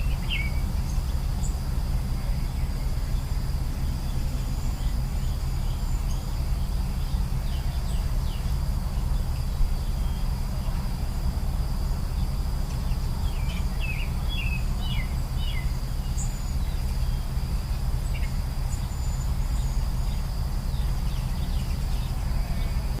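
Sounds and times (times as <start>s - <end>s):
bird chirps: 0.0s - 10.8s, 12.2s - 23.0s
insect drone: 0.0s - 23.0s
low rumble: 0.0s - 23.0s.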